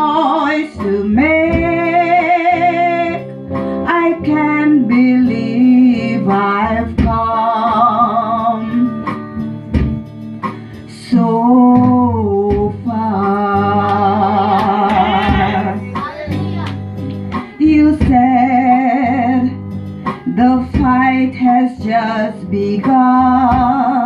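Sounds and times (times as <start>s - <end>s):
woman singing gospel song: 0.0s - 3.2s, 3.8s - 9.0s, 10.9s - 15.8s, 17.4s - 24.0s
guitar accompaniment: 0.0s - 24.0s.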